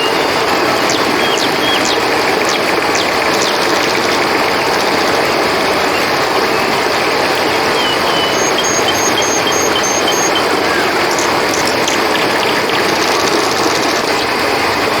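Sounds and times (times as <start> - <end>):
high calls sliding downward: 0.0 - 14.3
river water rushing: 0.0 - 15.0.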